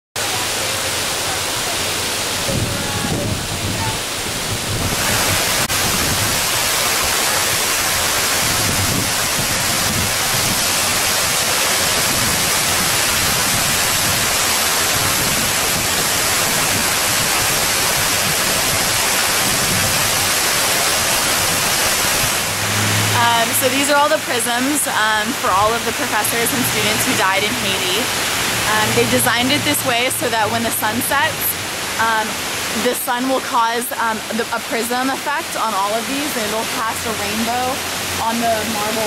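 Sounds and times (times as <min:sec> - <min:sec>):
fountain water splashing into pool: 0:00.2 - 0:39.0.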